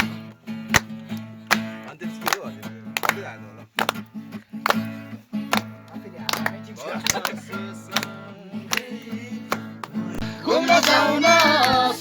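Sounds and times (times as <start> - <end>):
person singing folk song: 0.0 - 3.8, 5.8 - 12.0
guitar strumming chords: 0.0 - 12.0.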